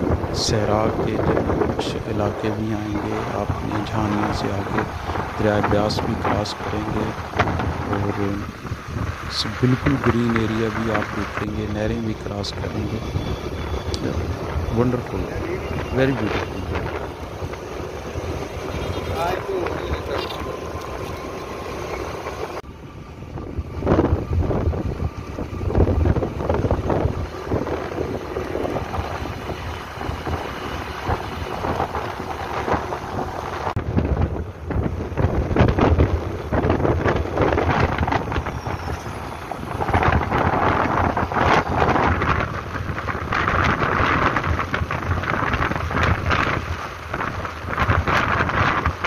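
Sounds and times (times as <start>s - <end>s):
road noise rushing: 0.0s - 49.0s
wind buffeting microphone: 0.0s - 49.0s.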